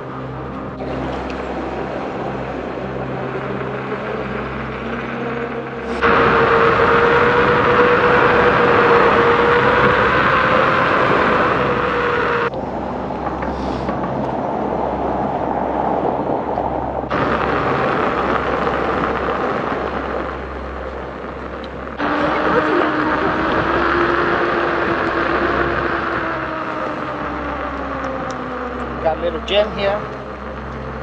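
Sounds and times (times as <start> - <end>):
faint steady whine: 0.0 - 31.0
road and tyre noise: 0.0 - 31.0.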